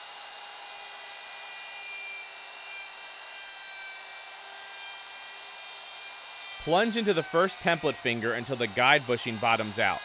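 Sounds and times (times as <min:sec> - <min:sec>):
electric router motor whine: 0:00.0 - 0:10.0
router bit cutting wood: 0:00.0 - 0:10.0.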